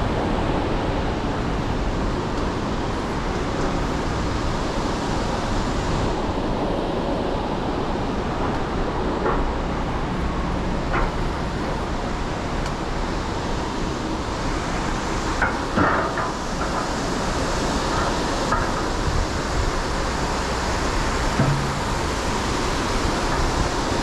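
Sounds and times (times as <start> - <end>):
trolley wheels rolling on rail: 0.0 - 24.0.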